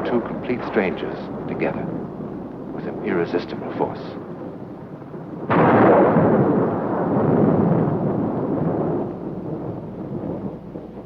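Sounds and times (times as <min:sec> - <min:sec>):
storm rumble: 0:00.0 - 0:11.0
thunderclap: 0:00.0 - 0:11.0.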